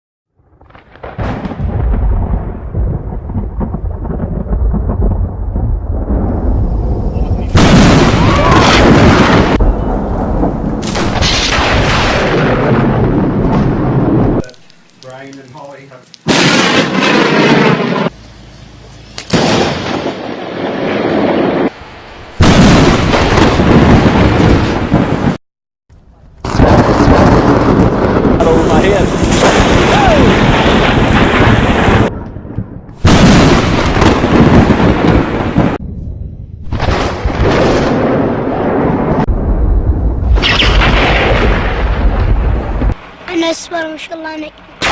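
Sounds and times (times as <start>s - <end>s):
thunder crack: 0.5s - 14.6s, 16.3s - 18.1s, 19.3s - 25.4s, 26.4s - 35.9s, 36.6s - 44.9s
thunder rumble: 0.5s - 14.7s, 16.3s - 18.2s, 19.3s - 25.4s, 26.3s - 44.9s.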